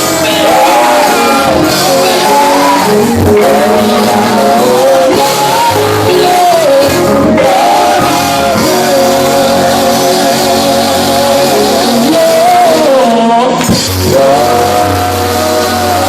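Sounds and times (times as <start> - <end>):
gospel group singing in harmony: 0.0 - 16.0
instrumental backing: 0.0 - 16.0.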